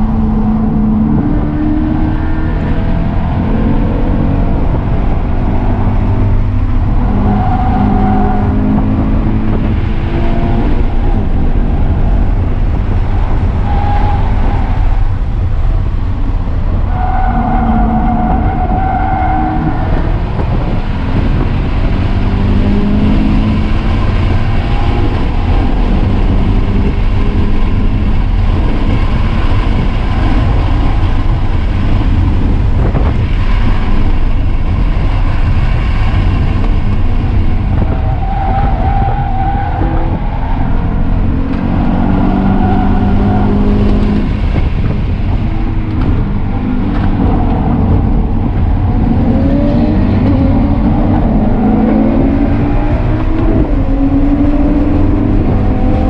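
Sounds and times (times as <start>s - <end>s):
car engine at full throttle: 0.0s - 56.0s.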